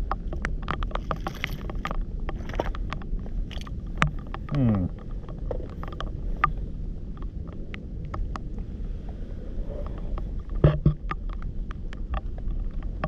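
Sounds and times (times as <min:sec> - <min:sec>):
small clicks and knocks: 0:00.0 - 0:09.2, 0:09.8 - 0:13.0
wind rumble on microphone: 0:00.0 - 0:13.0.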